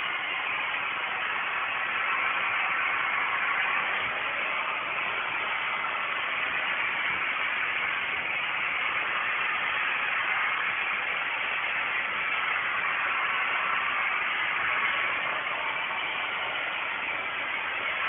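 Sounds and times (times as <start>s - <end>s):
hair dryer brush blowing air: 0.0s - 18.0s.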